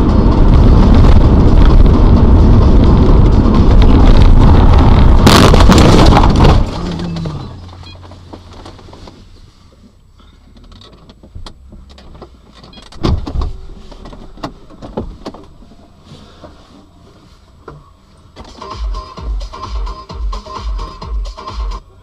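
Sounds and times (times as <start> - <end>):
low hum inside car: 0.0 - 22.0.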